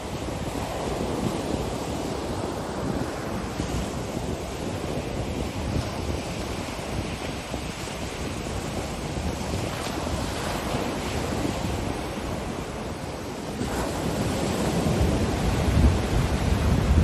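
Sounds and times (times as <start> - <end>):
waves breaking on beach: 0.0 - 17.0
wind rumbling on microphone: 0.0 - 17.0.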